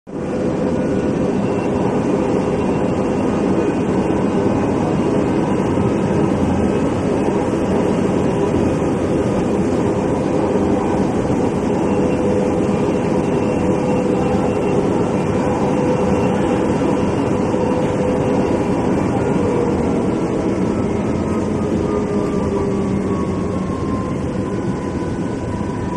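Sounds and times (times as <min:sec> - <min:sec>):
train running rumble: 0:00.1 - 0:25.9.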